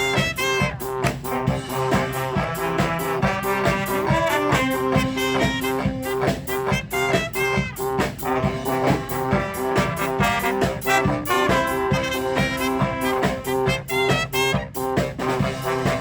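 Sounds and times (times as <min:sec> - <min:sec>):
drums keeping a steady beat: 0:00.0 - 0:16.0
trombones and trumpets: 0:00.0 - 0:16.0.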